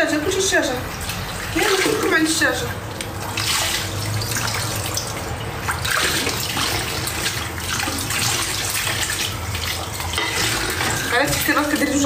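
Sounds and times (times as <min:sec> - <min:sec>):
tap water running into sink: 0:00.9 - 0:12.0.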